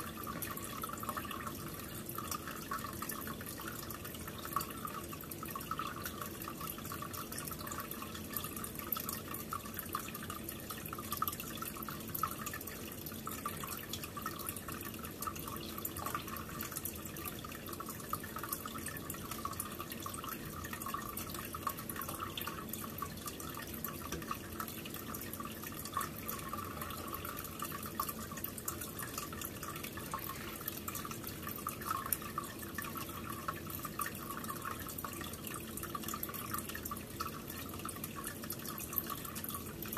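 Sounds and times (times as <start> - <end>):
aquarium filter water trickling: 0.0 - 39.9
water drips: 0.0 - 39.9.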